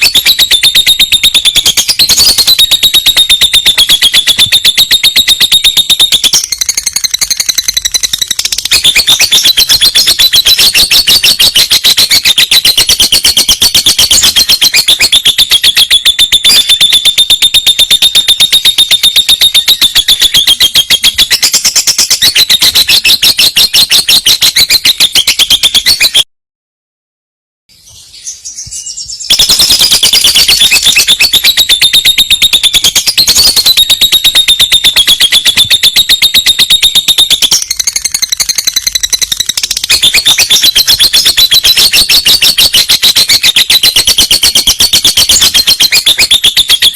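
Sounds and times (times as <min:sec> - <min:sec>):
bird singing rolling trill: 0:00.0 - 0:26.2, 0:27.8 - 0:46.9.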